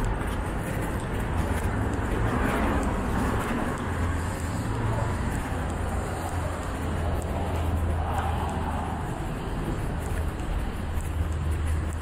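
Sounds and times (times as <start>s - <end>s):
cars driving along street: 0.0s - 12.0s
indistinct voices of passersby: 0.0s - 12.0s.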